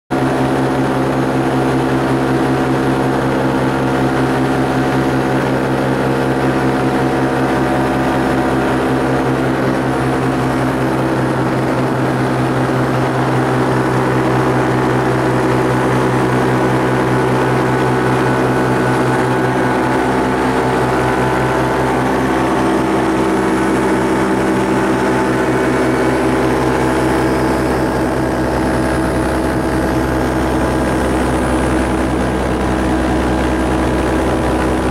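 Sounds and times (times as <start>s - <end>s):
propeller aircraft engine drone: 0.1s - 34.9s.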